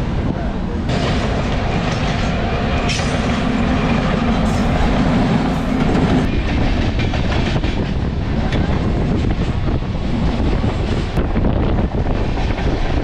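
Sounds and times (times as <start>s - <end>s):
train wheels clattering over rails: 0.9s - 13.0s.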